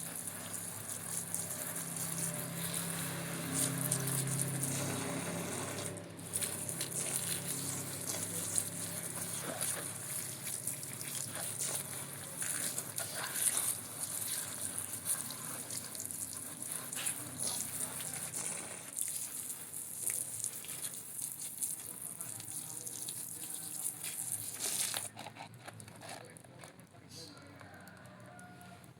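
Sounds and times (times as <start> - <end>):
water running and splashing: 0.0 - 25.1.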